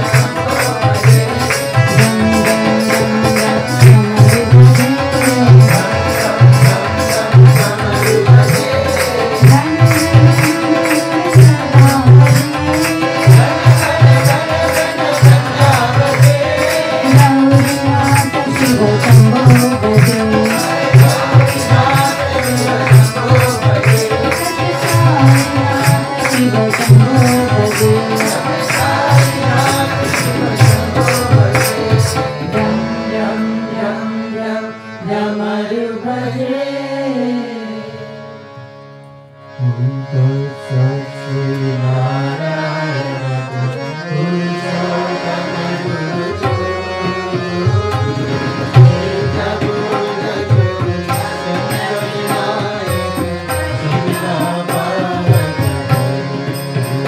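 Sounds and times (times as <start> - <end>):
devotional singing: 0.0 - 38.8, 39.4 - 57.0
keyboard: 0.0 - 57.0.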